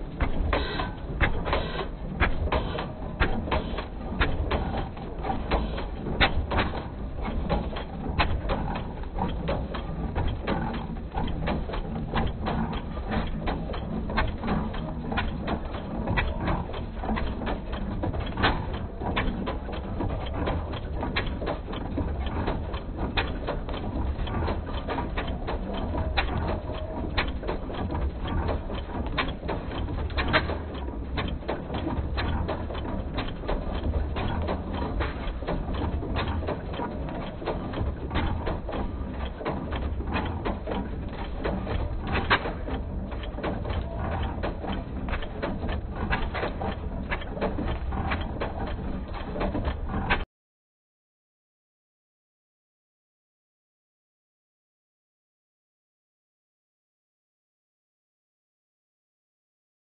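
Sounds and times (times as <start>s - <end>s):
stationary engine and pump running: 0.0s - 50.2s.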